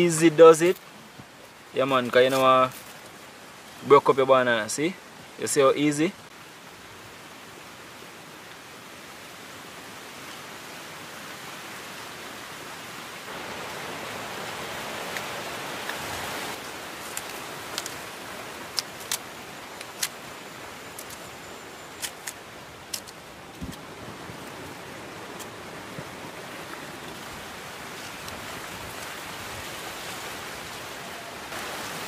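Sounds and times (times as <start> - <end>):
outdoor rustling hiss: 0.0 - 32.0.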